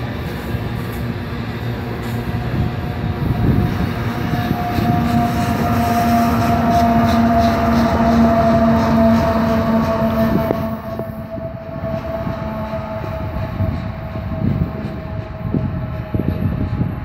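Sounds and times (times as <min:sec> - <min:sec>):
diesel locomotive engine drone: 0:00.0 - 0:17.0
freight train cars rumbling: 0:00.0 - 0:17.0.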